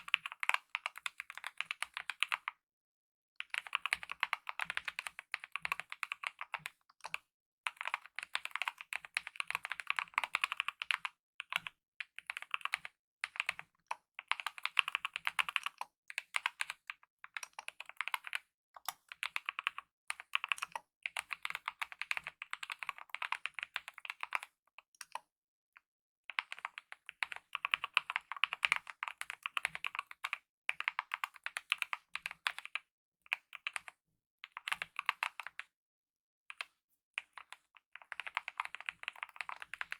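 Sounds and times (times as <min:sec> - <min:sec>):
fast typing on mechanical keyboard: 0:00.0 - 0:02.5, 0:03.4 - 0:24.6, 0:26.3 - 0:35.6, 0:37.2 - 0:39.9.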